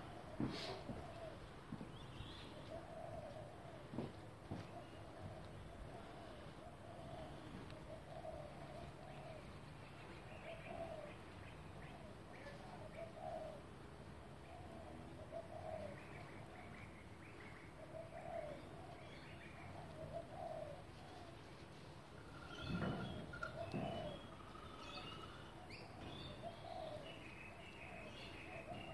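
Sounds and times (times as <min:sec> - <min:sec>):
low cooing bird calls: 0:00.0 - 0:28.9.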